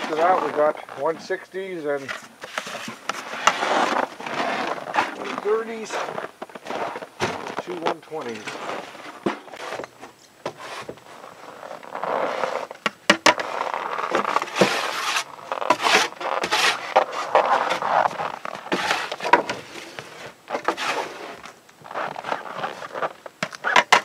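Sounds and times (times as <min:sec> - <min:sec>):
gear scraping in wooden box: 0:00.0 - 0:24.0.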